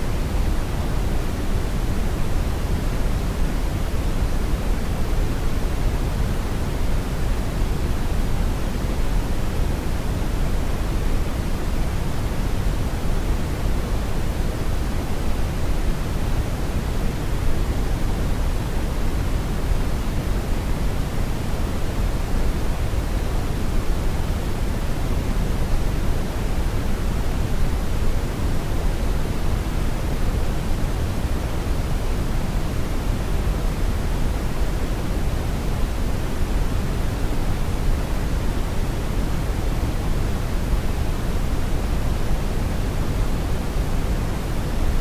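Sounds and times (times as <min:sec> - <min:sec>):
brown noise rushing hiss: 0:00.0 - 0:45.0.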